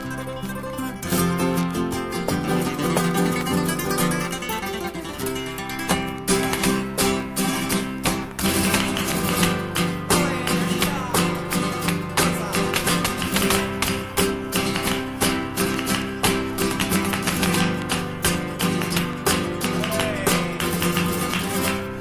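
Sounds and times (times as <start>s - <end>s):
flamenco guitar playing: 0.0s - 22.0s.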